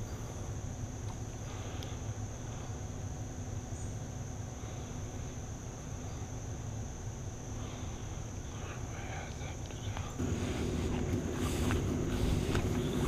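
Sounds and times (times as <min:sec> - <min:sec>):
insects chirring in grass: 0:00.0 - 0:13.0.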